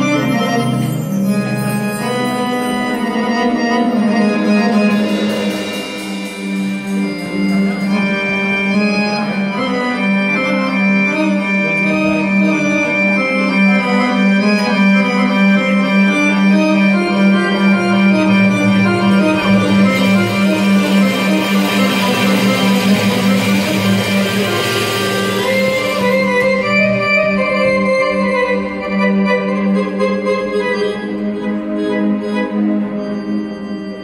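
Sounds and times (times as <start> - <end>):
electronic keyboard melody: 0.0 - 34.0
held drone note: 0.0 - 34.0.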